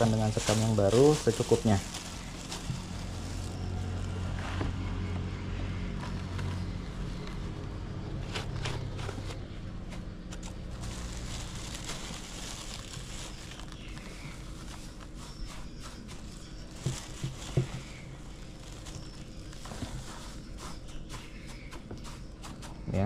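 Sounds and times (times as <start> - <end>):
wood shavings rustling: 0.0 - 5.0, 5.8 - 22.9.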